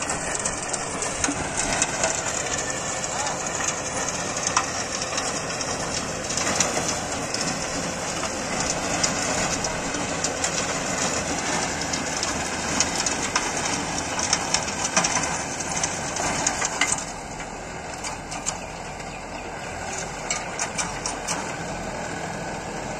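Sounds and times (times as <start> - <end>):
dry stalks crackling and snapping: 0.0 - 21.6
tiller churning: 0.0 - 22.9
tractor engine running: 0.0 - 22.9.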